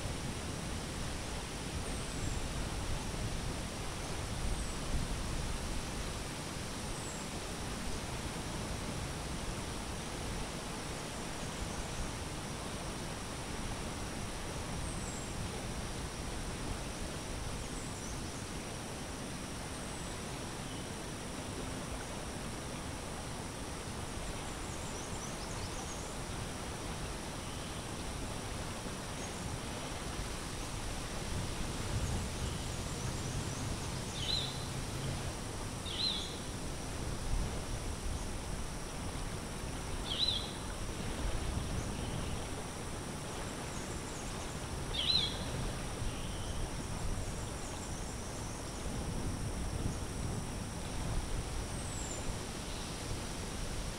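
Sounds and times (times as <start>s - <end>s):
high insect hum: 0.0s - 53.9s.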